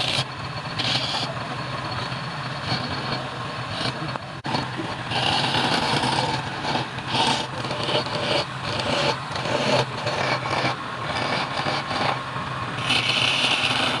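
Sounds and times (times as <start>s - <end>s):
tool cutting spinning wood: 0.0s - 14.0s
wood lathe motor hum: 0.0s - 14.0s.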